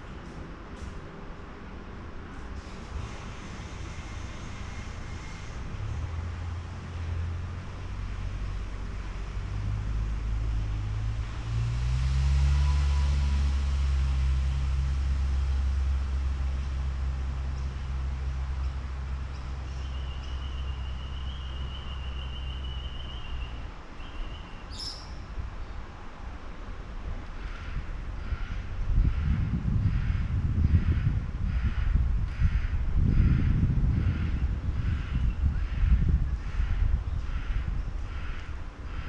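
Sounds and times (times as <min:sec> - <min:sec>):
low engine rumble: 0:00.0 - 0:39.0.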